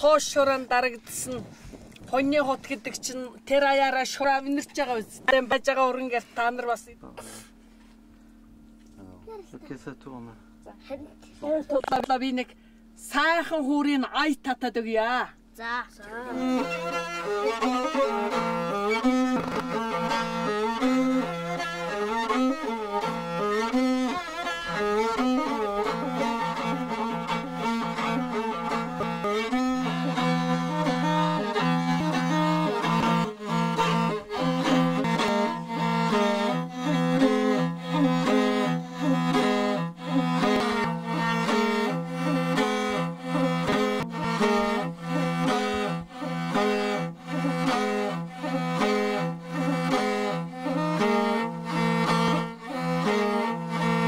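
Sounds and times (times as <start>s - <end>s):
bowed fiddle melody with drone: 0.0s - 14.1s, 16.0s - 54.0s.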